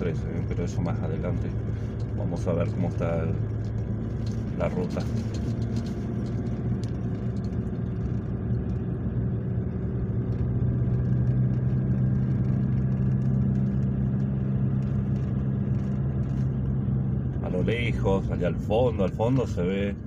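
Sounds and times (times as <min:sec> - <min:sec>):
tyre noise on wet road: 0:00.0 - 0:09.0, 0:09.8 - 0:20.0
car engine running: 0:00.0 - 0:20.0.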